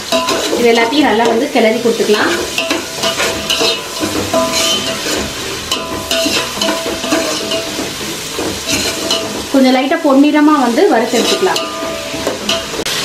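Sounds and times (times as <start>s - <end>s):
spoon scraping pot: 0.0s - 9.6s, 10.8s - 12.9s
vegetables sizzling in hot oil: 0.0s - 13.0s.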